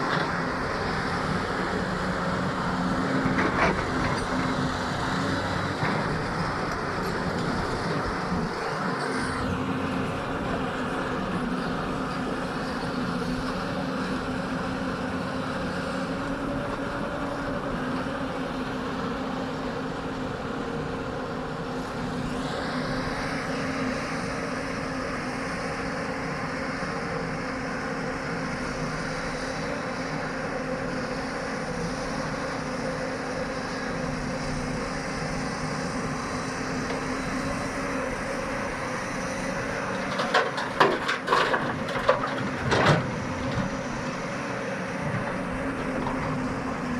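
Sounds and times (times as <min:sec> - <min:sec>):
excavator engine and hydraulics: 0:00.0 - 0:46.9.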